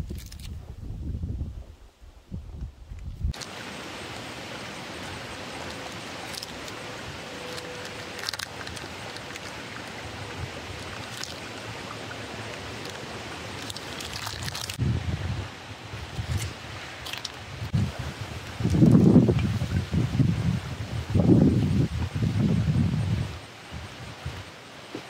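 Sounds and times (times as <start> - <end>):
flowing river water: 3.3 - 25.0.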